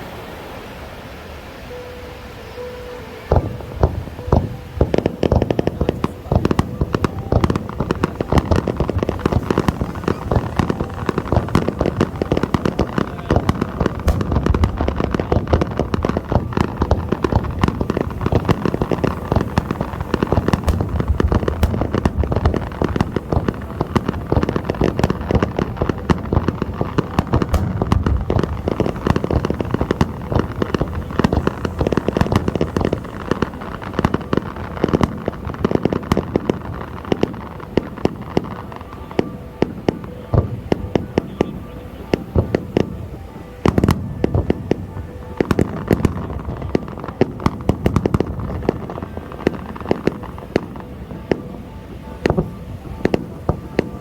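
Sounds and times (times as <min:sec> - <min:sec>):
fireworks bangs and crackling: 0:02.5 - 0:54.0.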